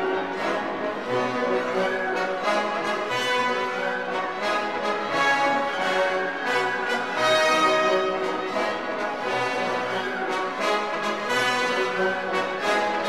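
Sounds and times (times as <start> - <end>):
orchestral music with brass: 0.0 - 13.0.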